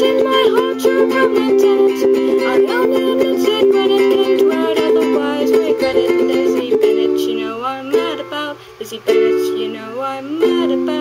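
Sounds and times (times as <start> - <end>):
ukulele strumming chords: 0.0 - 11.0
woman singing: 0.0 - 11.0.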